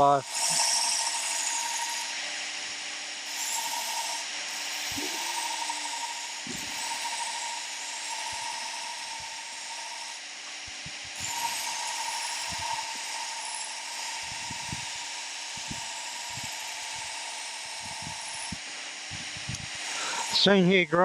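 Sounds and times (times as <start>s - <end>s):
machine whine: 0.0s - 21.0s
steel grinding on belt: 0.0s - 21.0s.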